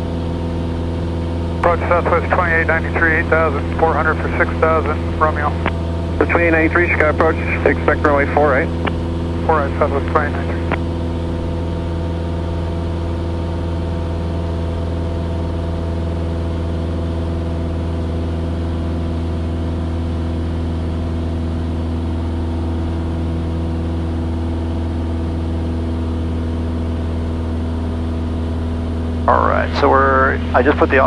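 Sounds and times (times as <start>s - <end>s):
airplane engine and propeller droning: 0.0s - 31.0s.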